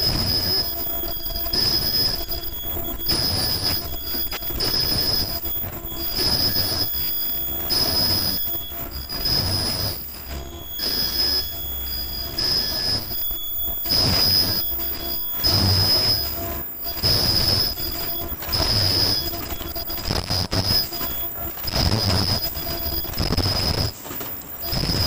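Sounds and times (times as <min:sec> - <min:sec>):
high-pitched machine squeal: 0:00.0 - 0:25.0.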